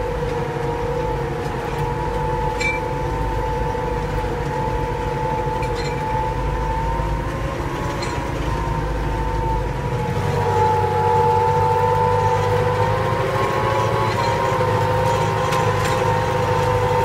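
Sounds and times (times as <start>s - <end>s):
steady whine: 0.0s - 17.0s
tractor diesel engine running: 0.0s - 17.0s.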